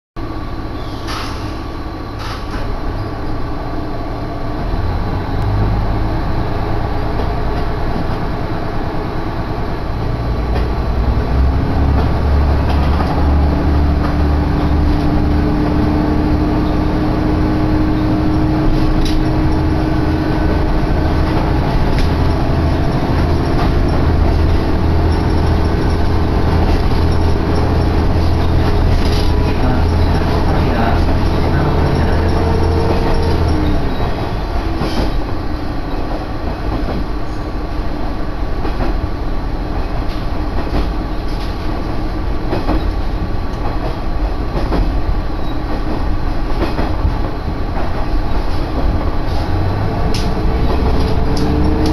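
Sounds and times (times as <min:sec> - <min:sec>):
diesel railcar rumble: 0:00.2 - 0:51.9.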